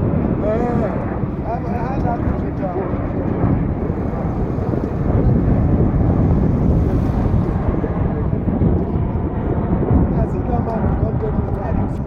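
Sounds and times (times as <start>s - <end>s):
jet engines roaring: 0.0s - 12.0s
wind buffeting microphone: 0.0s - 12.0s.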